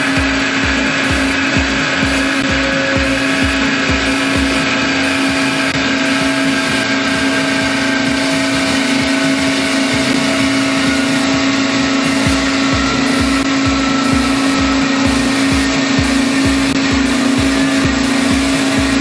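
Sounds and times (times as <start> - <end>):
metal-cutting bandsaw running: 0.0 - 19.0.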